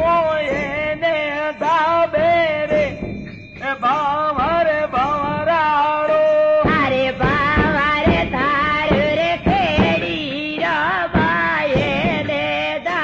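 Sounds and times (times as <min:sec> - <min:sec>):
percussion strokes: 0:00.0 - 0:13.0.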